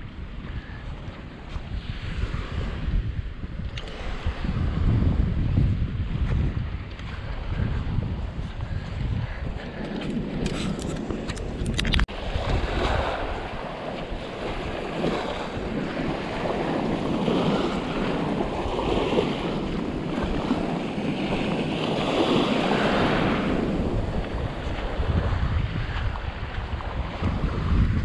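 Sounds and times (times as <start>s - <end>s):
small waves washing onto sand: 0.0s - 28.0s
wind buffeting the microphone: 0.0s - 28.0s.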